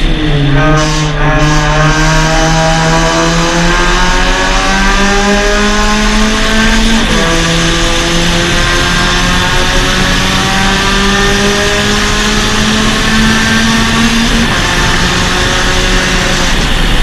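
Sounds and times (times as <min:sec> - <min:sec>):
car engine under racing load: 0:00.0 - 0:17.0.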